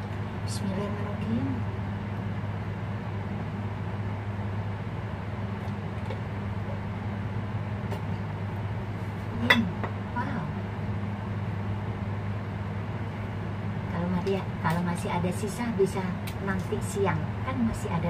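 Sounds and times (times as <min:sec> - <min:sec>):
appliance humming: 0:00.0 - 0:18.0.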